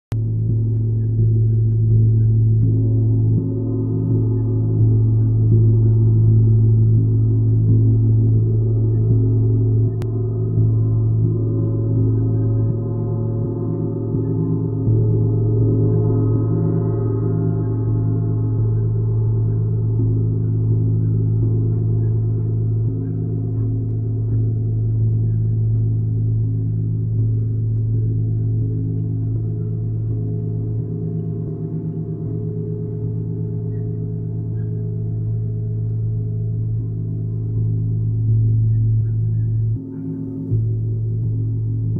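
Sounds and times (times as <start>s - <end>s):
gong deep hum: 0.1s - 41.9s.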